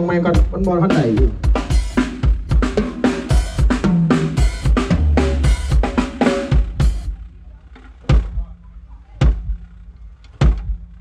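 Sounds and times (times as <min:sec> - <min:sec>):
drum kit through pa: 0:00.0 - 0:11.0.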